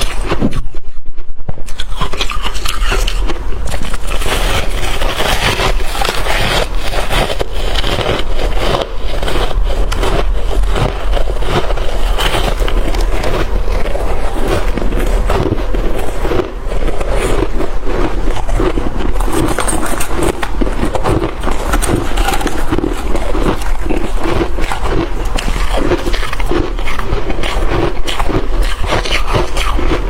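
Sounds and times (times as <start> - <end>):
chewing crunchy ice: 0.0 - 0.9, 1.6 - 30.0.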